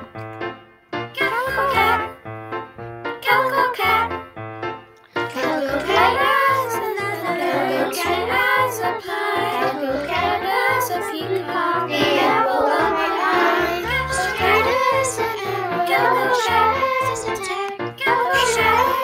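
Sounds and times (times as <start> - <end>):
instrumental accompaniment: 0.0 - 19.0
children's choir singing: 1.2 - 2.2, 3.2 - 4.2, 5.2 - 19.0.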